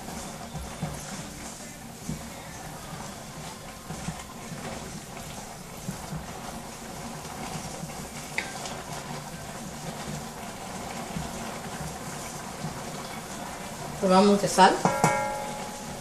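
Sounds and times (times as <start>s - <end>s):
beef sizzling and bubbling in a pot: 0.0s - 16.0s.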